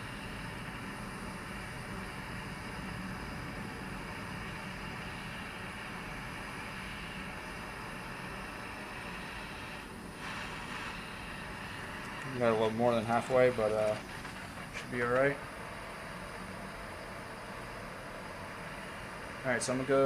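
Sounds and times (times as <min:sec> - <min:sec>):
gas torch flame hissing: 0:00.0 - 0:20.0.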